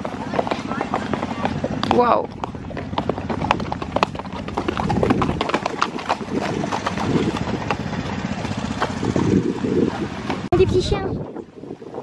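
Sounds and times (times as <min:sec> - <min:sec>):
horse hooves clip-clopping on dirt: 0:00.0 - 0:10.5.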